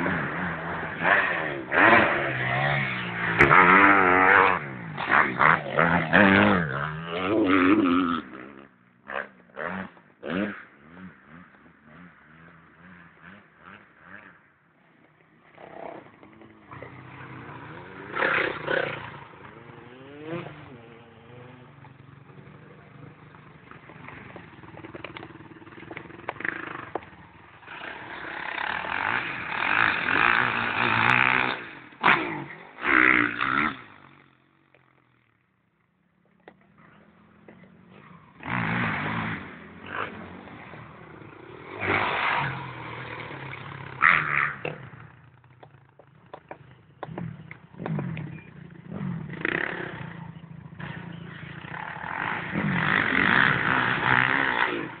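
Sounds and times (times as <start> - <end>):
motocross bike engine revving: 0.0 - 14.6, 15.3 - 35.5, 36.7 - 55.0.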